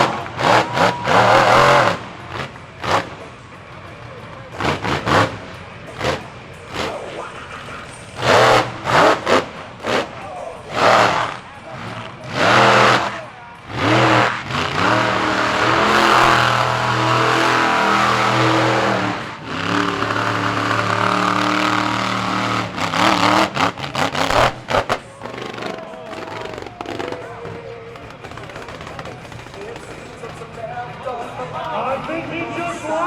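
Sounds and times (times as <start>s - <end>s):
truck engine revving and stuttering: 0.0s - 32.4s.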